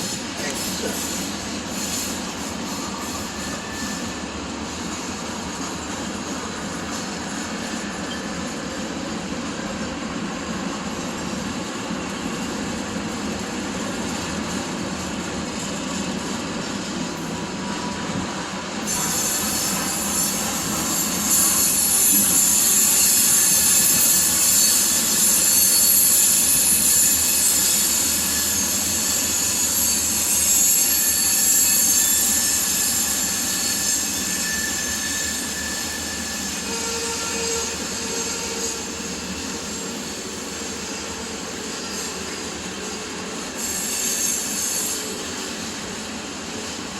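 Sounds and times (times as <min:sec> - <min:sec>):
wheels hissing and squealing: 0:00.0 - 0:09.5, 0:12.3 - 0:46.9
freight train cars rumbling: 0:00.0 - 0:46.9.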